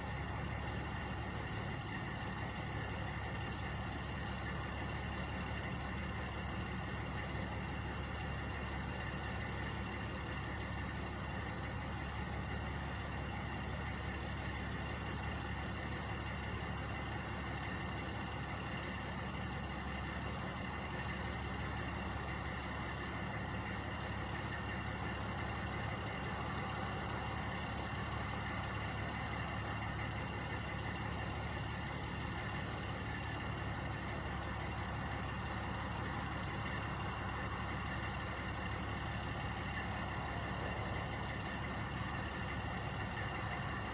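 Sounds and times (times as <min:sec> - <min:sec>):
truck engines idling: 0:00.0 - 0:43.9.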